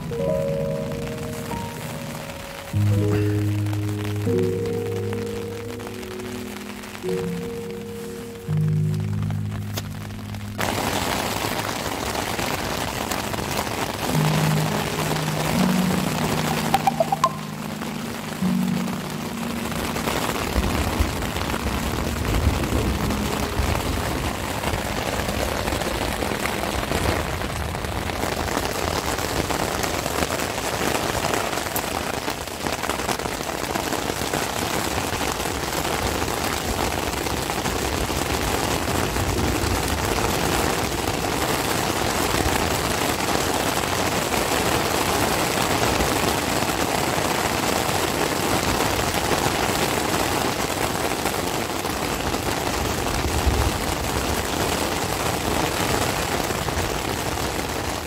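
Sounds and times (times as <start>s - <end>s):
heavy rain on tent fabric: 0.0s - 58.0s.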